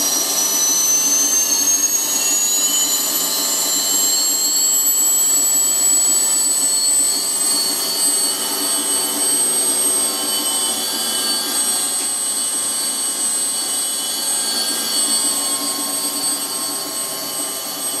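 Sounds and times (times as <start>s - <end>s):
grinding machine whine: 0.0s - 18.0s.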